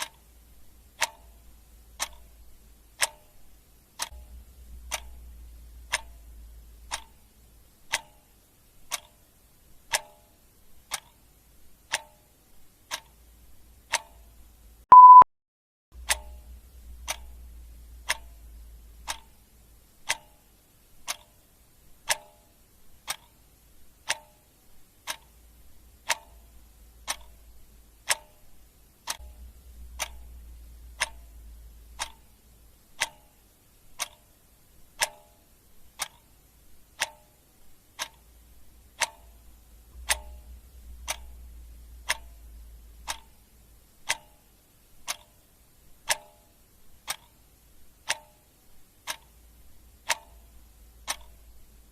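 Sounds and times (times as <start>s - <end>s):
clock ticking: 0.0s - 15.2s, 16.0s - 51.9s.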